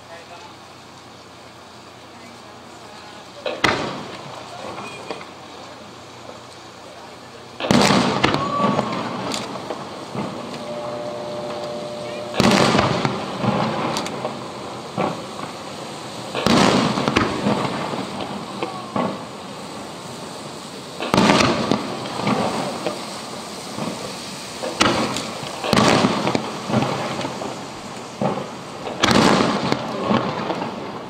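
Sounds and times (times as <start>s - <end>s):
small firework cracks: 2.1s - 10.7s, 11.5s - 31.0s
firework booms with rolling echo: 3.2s - 31.0s.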